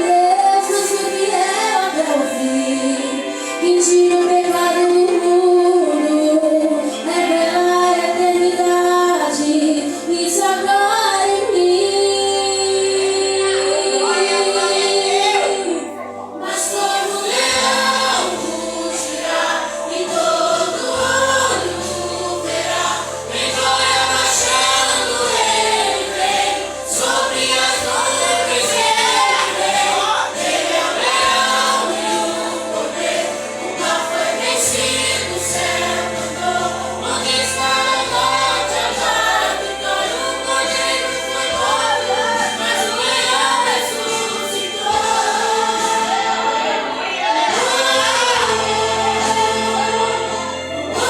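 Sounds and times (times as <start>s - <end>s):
gospel choir singing: 0.0s - 51.0s
instrumental accompaniment: 0.0s - 51.0s.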